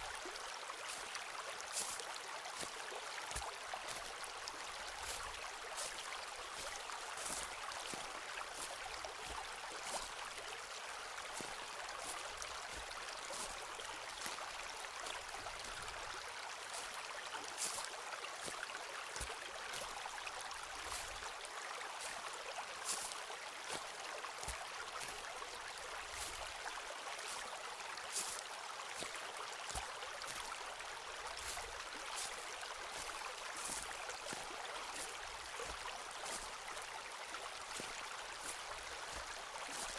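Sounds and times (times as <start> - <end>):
footsteps on forest path: 0.0 - 39.9.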